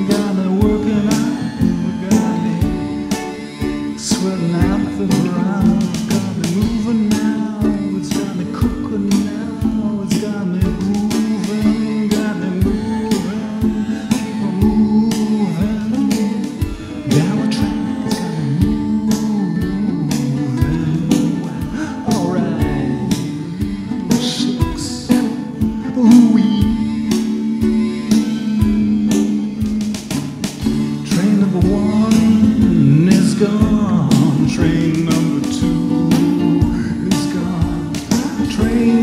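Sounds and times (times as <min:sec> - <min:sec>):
guitar: 0:00.0 - 0:39.0
steady drum beat: 0:00.0 - 0:39.0.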